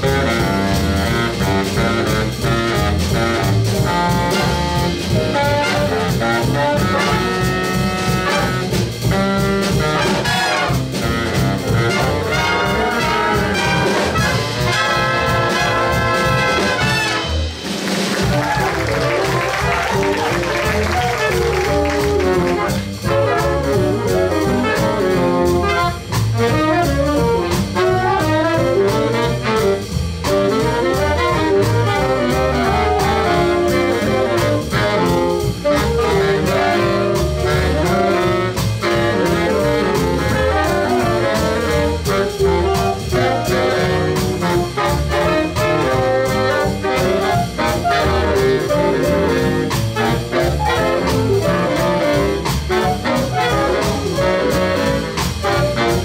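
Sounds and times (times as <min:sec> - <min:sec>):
jazz big band playing swing: 0:00.0 - 0:56.0.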